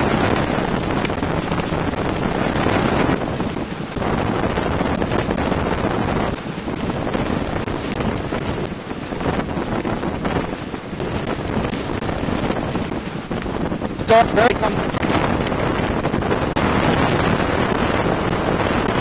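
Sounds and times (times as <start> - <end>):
gusting wind buffeting microphone: 0.0 - 19.0
wind-driven rain: 0.0 - 19.0.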